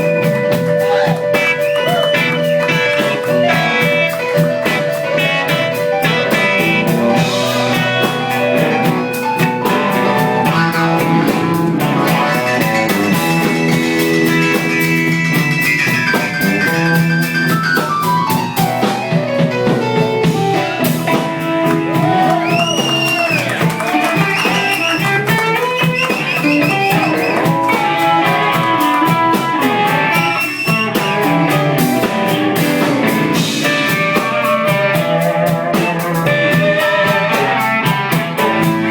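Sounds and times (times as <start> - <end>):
drums: 0.0 - 38.9
lead guitar bending notes: 0.0 - 38.9
live blues band playing: 0.0 - 38.9.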